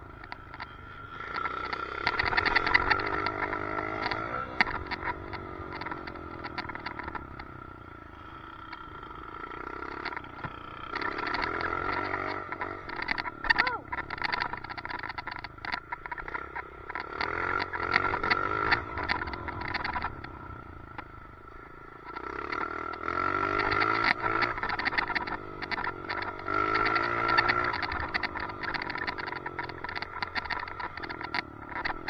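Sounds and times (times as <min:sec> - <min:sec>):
motorcycle engine revving: 0:00.0 - 0:32.0
rapid rattling: 0:00.0 - 0:32.0.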